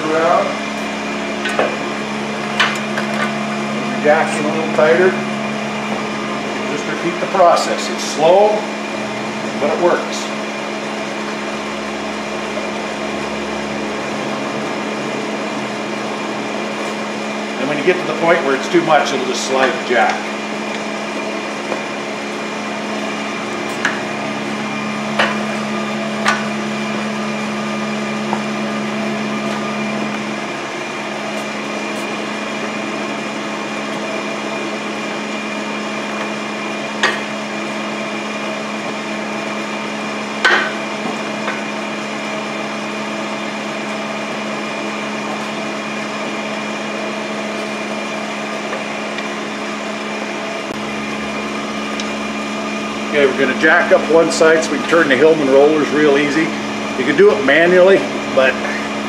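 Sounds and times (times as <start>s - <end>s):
steady mechanical hum: 0.0s - 59.0s.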